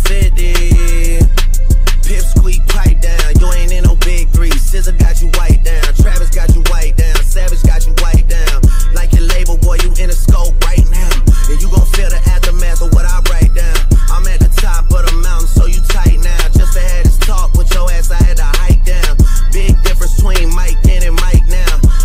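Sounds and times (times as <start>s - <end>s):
heavy bass line: 0.0s - 22.0s
hip hop music: 0.0s - 22.0s.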